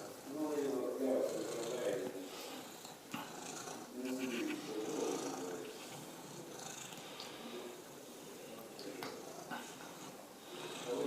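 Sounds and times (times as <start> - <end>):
cat purring: 0.9 - 7.8, 8.9 - 11.0.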